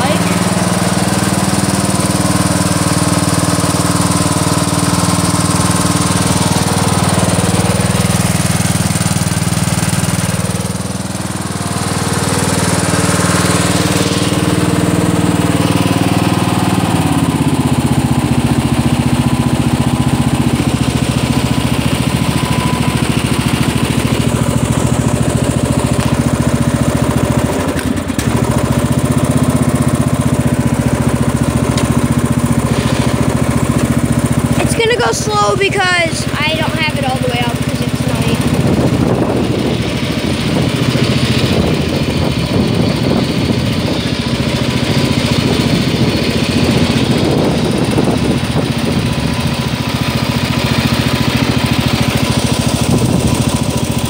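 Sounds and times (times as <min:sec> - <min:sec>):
riding mower engine running: 0:00.0 - 0:54.0.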